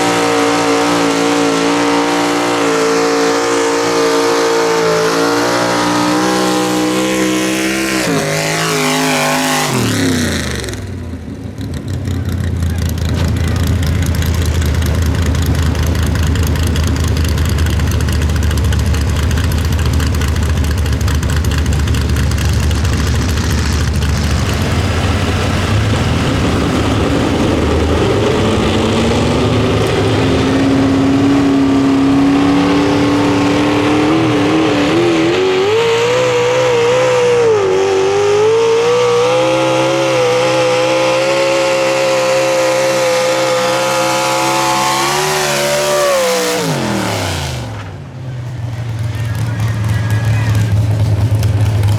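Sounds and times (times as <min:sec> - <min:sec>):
truck engine at full throttle: 0:00.0 - 0:51.9.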